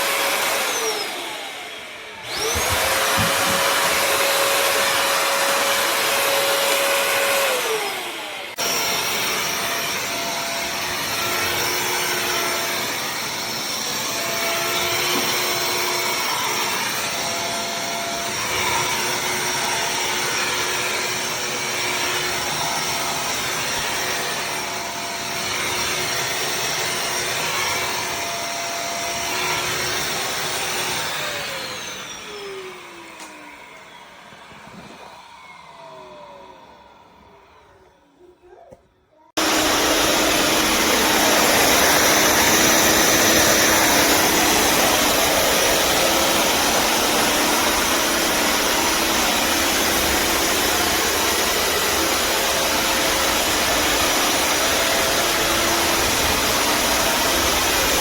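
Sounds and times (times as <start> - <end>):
vacuum motor whine: 0.0 - 38.1, 39.4 - 58.0.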